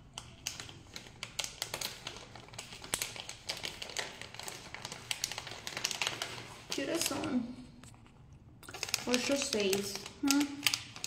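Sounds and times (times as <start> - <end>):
plastic packet crinkling: 0.0 - 8.0, 8.6 - 11.0.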